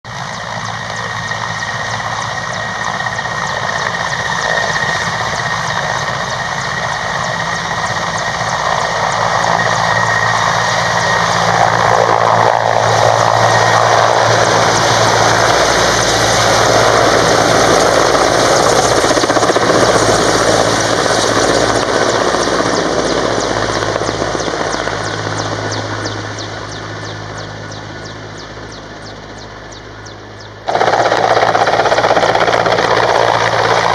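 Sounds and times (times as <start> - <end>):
helicopter flying past: 0.1 - 33.9.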